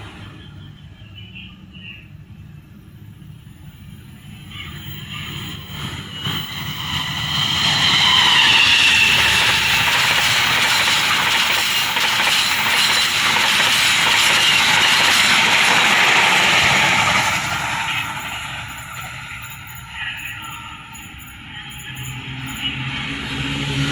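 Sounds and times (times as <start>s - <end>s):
train passing: 0.0s - 23.9s.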